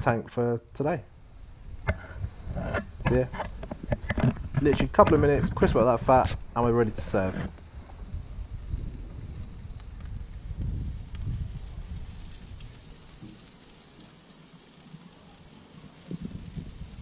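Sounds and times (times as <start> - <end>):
charcoal crackling: 0.1 - 17.0
meat sizzling on a grill: 0.1 - 17.0
wind rumbling on microphone: 1.0 - 14.0, 15.7 - 17.0.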